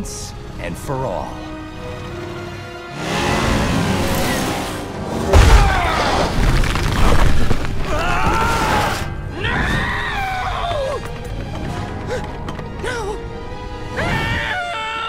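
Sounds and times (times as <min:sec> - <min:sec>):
dramatic music: 0:00.0 - 0:15.0.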